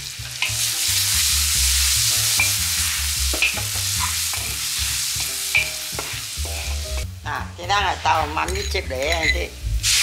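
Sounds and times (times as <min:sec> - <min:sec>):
sauce sizzling in a wok: 0:00.0 - 0:10.0.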